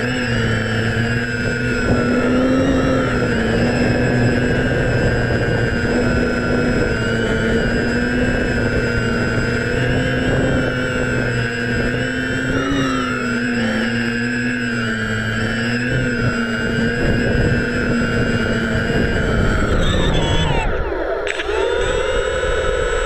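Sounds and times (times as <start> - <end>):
drone motors and propellers whining: 0.0 - 23.0.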